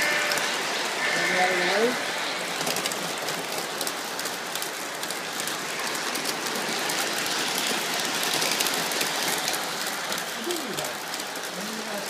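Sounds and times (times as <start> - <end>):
model train wheels clattering: 0.0 - 12.0.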